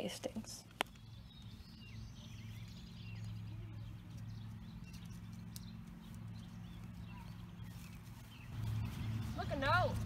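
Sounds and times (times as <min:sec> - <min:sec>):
faint birds chirping: 0:00.0 - 0:10.0
low outdoor hum: 0:00.0 - 0:10.0.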